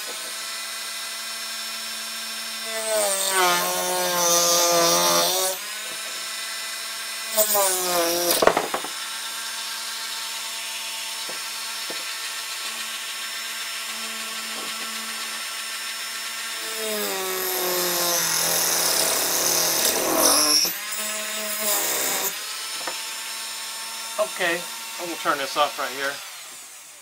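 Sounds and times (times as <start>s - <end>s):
rotary saw whining: 0.0s - 27.0s
saw blade rasping through wood: 2.5s - 26.7s.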